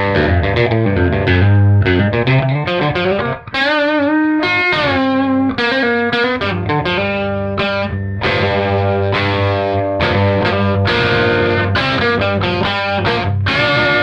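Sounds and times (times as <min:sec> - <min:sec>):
clean electric guitar notes: 0:00.0 - 0:14.0.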